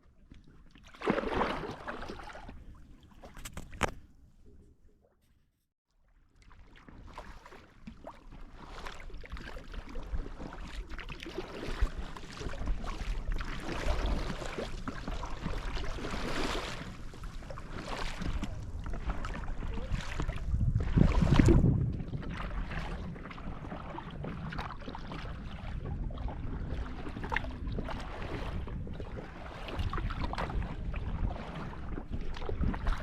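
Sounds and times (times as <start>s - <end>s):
kayak paddle splashing: 0.1s - 4.0s, 6.2s - 33.0s.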